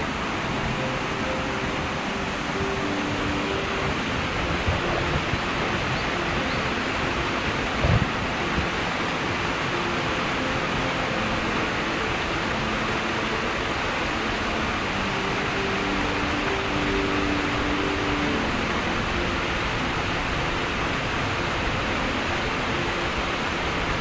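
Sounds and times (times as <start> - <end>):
waterfall running over rocks: 0.0 - 24.0.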